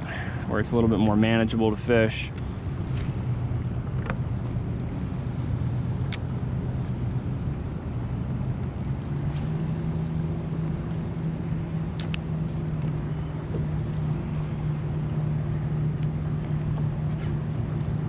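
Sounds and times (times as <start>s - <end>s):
water noise: 0.0s - 16.9s
boat engine humming: 0.0s - 18.0s
wind: 0.0s - 18.0s.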